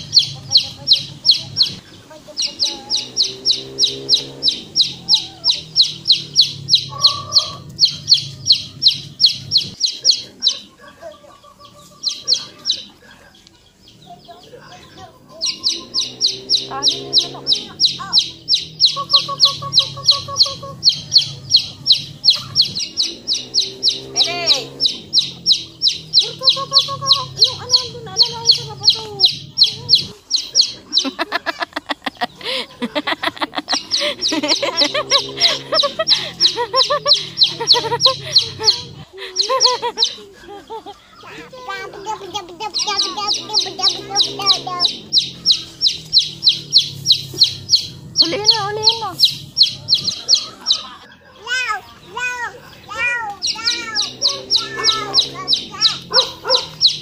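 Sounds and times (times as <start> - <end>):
bird chirping high notes: 0.0 - 10.7, 14.9 - 31.2, 33.6 - 40.2, 41.4 - 57.0
softer lower bird calls: 0.0 - 31.2, 33.7 - 57.0
hens clucking: 0.0 - 57.0.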